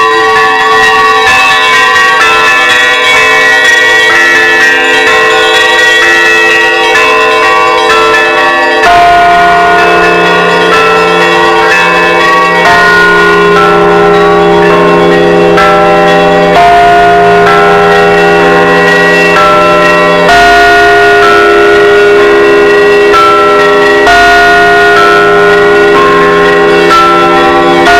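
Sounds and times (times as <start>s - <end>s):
deep bass bell: 0.0s - 27.9s
small church bells chiming: 0.0s - 27.9s.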